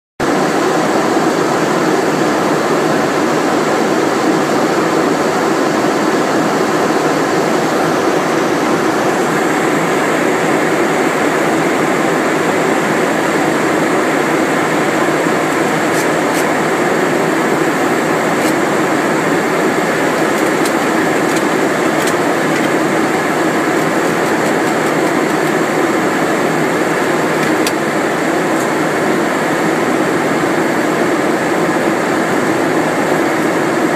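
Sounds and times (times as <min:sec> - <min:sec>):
air-conditioning: 0:00.2 - 0:33.9.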